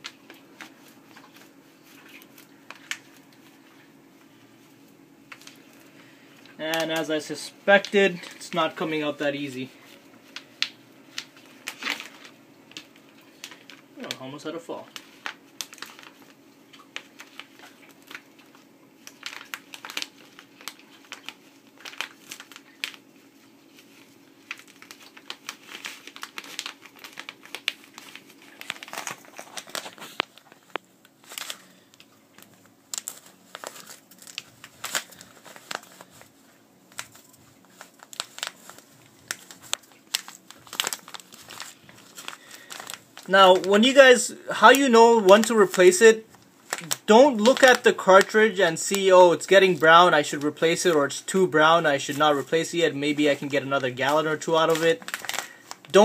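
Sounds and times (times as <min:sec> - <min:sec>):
plastic bag crinkling: 0:00.0 - 0:56.0.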